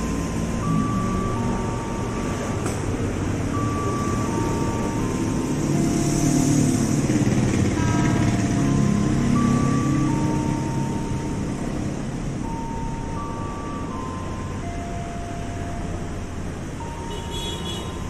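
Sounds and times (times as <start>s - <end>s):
held high tones melody: 0.0s - 18.0s
station platform rumble: 0.0s - 18.0s.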